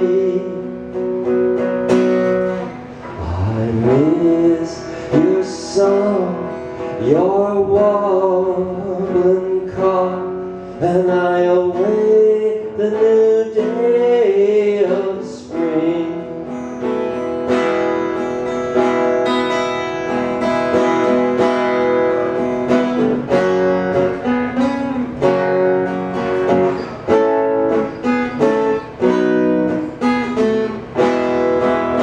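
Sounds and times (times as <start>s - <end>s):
acoustic guitar chords: 0.0s - 32.0s.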